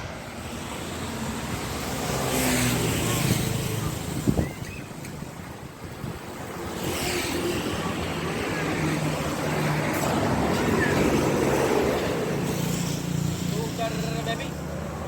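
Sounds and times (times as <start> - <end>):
vehicle passing by: 0.0 - 4.6, 5.9 - 15.0.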